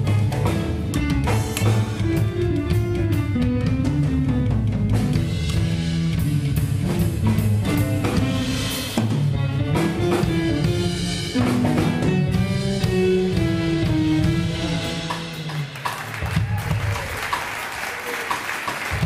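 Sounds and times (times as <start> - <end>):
electric bass: 0.0 - 16.8
electric guitar: 0.0 - 17.1
drum kit: 0.0 - 19.0.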